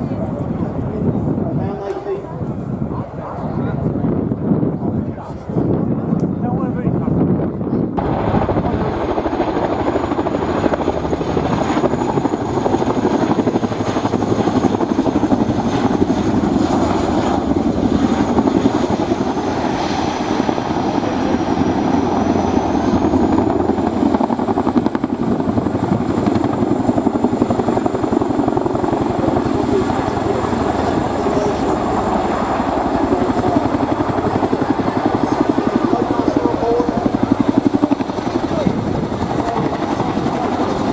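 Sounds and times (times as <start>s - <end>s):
helicopter rotors beating: 0.0s - 40.9s
high turbine whine: 0.0s - 40.9s.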